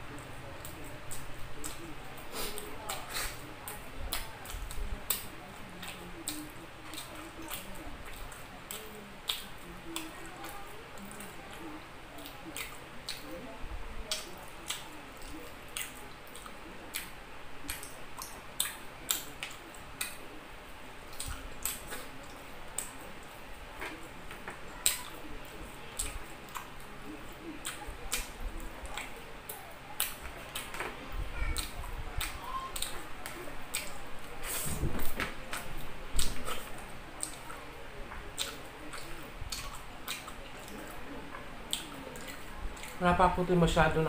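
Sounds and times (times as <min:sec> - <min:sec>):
chewing: 0:00.1 - 0:43.0.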